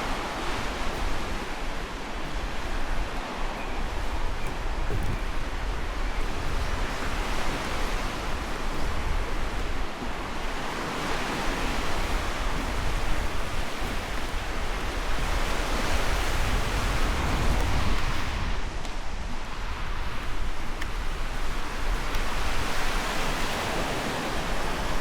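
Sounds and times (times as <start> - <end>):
waves breaking on shore: 0.0 - 25.0.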